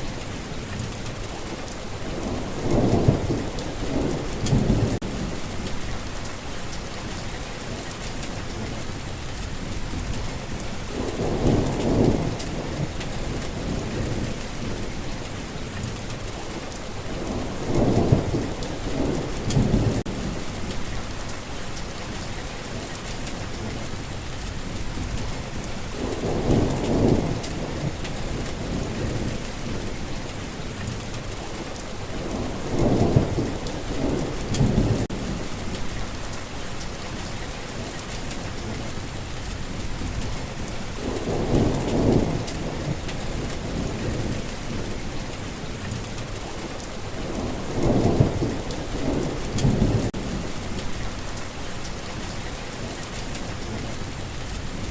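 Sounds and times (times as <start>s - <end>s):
low rolls of thunder: 0.0s - 21.4s, 22.0s - 38.9s, 39.5s - 54.9s
steady rain falling: 0.0s - 54.9s.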